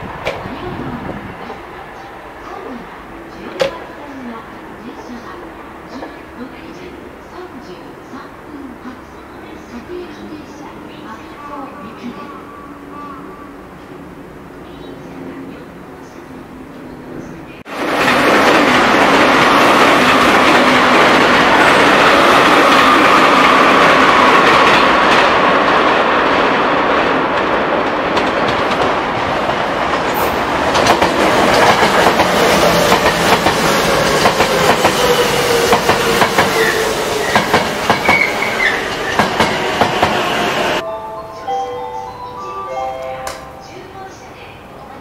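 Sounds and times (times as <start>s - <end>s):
electric train rumbling past: 0.0s - 45.0s.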